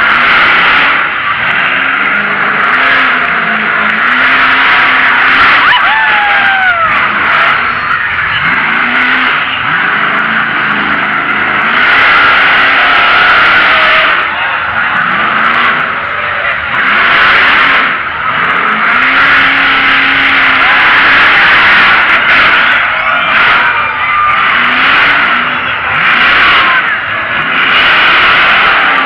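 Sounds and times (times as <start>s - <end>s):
monster truck engine revving: 0.0s - 29.0s.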